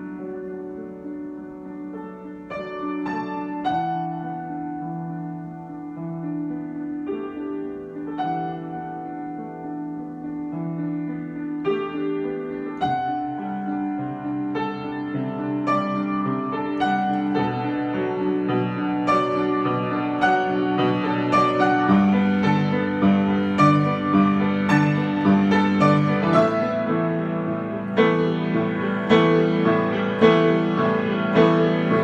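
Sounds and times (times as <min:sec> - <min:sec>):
solo piano: 0:00.0 - 0:32.0.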